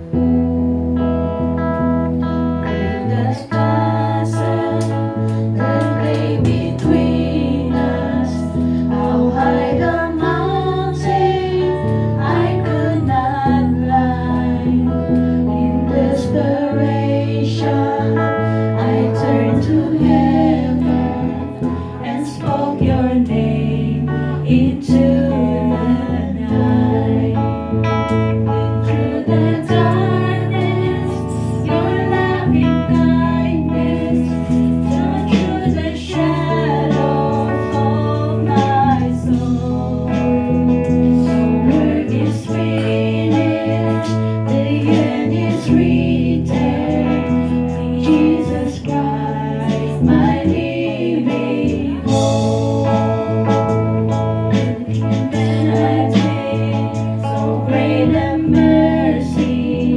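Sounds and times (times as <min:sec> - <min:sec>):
electric guitar strummed: 0:00.0 - 0:59.9
women singing worship song: 0:02.2 - 0:59.9.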